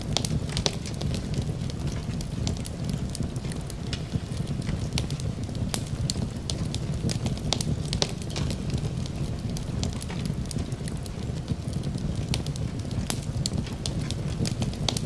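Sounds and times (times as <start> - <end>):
fireplace crackling and popping: 0.0 - 15.0
steady low rumble: 0.0 - 15.0.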